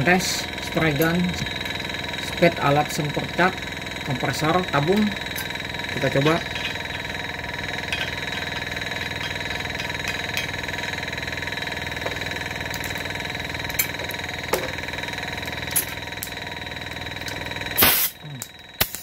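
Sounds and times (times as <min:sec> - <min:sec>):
compressor motor hum: 0:00.0 - 0:19.0.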